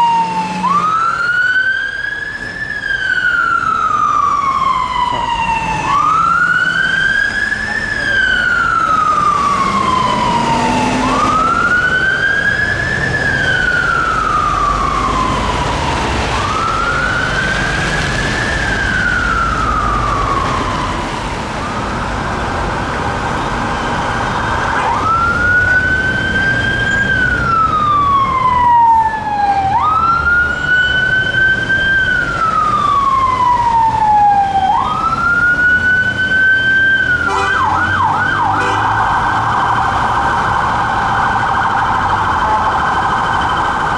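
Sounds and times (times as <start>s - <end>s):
police siren wailing and yelping: 0.0s - 22.3s, 23.8s - 43.9s
fire engine siren wailing: 0.0s - 43.9s.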